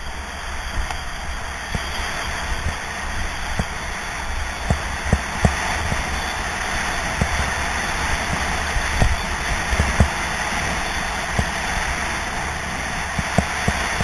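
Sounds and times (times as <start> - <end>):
skis running over snow: 0.0 - 14.0
wind rushing over microphone: 0.0 - 14.0.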